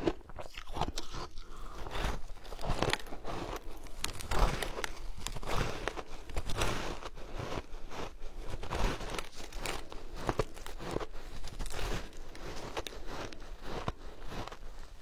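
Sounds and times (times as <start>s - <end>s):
shaved ice crunching: 0.0s - 15.0s.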